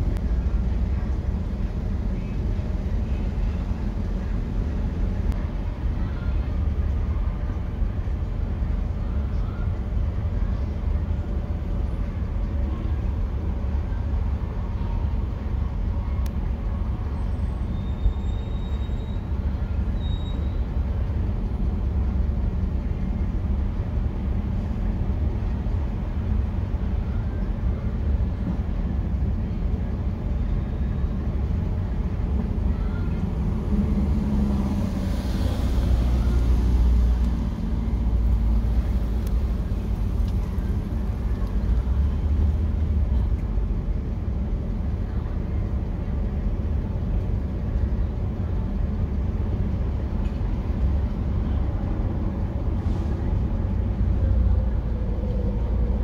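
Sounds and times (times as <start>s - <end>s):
low rumble of road traffic: 0.0s - 56.0s.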